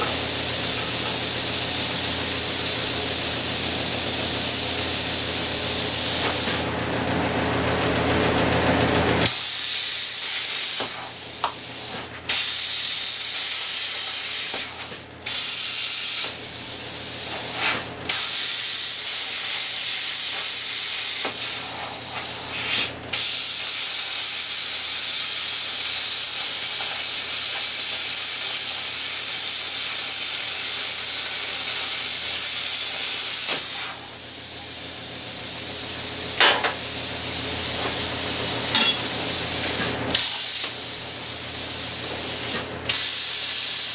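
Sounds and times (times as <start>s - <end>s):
plasma cutter hissing: 0.0s - 6.7s, 9.2s - 43.9s.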